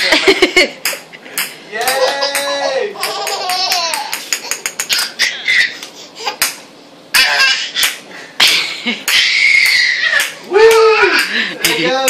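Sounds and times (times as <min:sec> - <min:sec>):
baby laughing: 0:01.8 - 0:11.8.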